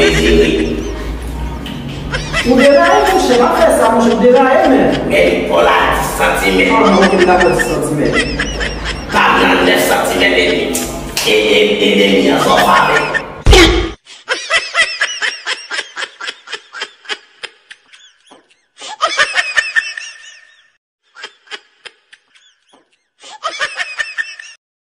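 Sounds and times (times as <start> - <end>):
person laughing: 0.0 - 1.3, 1.9 - 10.8, 12.4 - 24.6.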